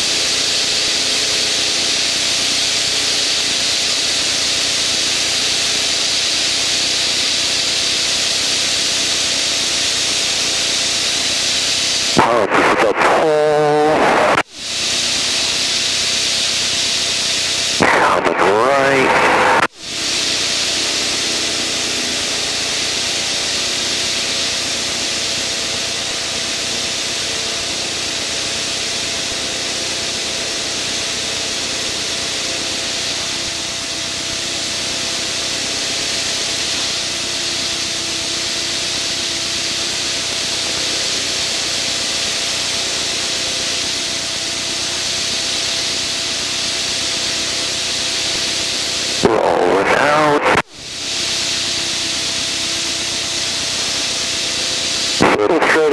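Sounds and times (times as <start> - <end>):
aircraft airflow and engine hiss: 0.0 - 55.9.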